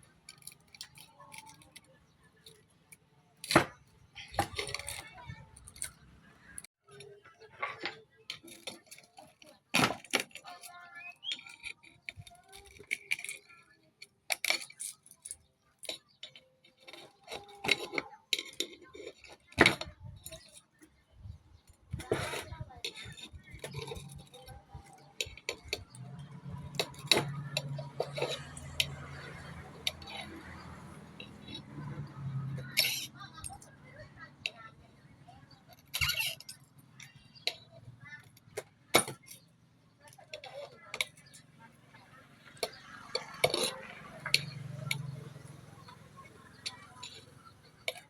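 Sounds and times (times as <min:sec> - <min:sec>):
metal tools clinking: 0:00.0 - 0:34.9, 0:35.5 - 0:41.9, 0:42.5 - 0:48.0.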